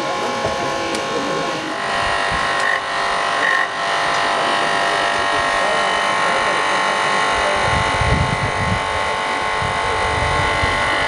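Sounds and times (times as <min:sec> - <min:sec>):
hydraulic power unit buzzing drone: 0:00.0 - 0:11.0.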